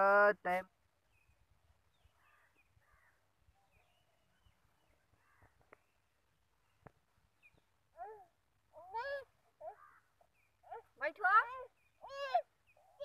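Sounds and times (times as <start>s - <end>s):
distant bird chirps: 0.9s - 13.0s.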